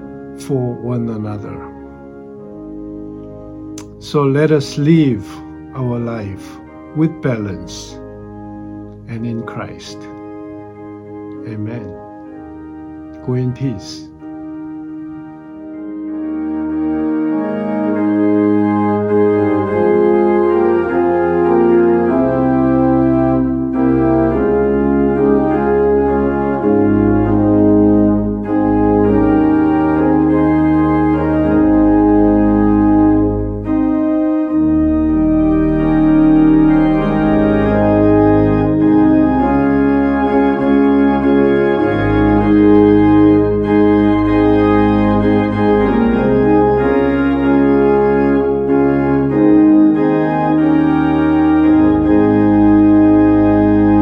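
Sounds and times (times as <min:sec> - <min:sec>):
organ chords and bass line: 0:00.0 - 0:54.0.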